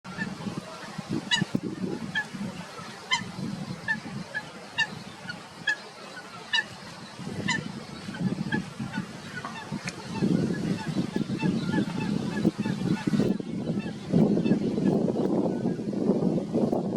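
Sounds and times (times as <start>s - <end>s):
waterbird nasal calls: 0.1s - 1.5s, 2.1s - 15.0s.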